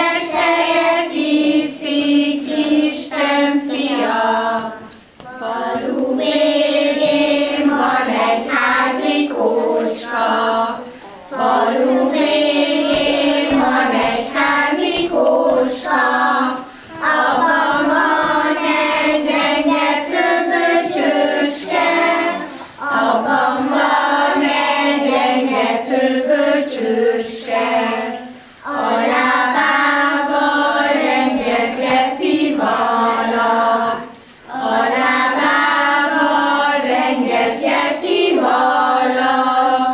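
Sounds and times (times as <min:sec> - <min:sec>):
young children singing: 0:00.0 - 0:39.9.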